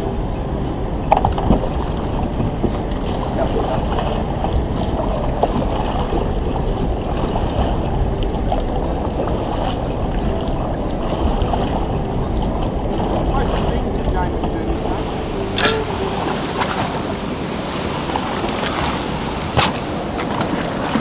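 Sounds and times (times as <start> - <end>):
boat engine running: 0.0 - 21.0
water rushing: 0.0 - 21.0.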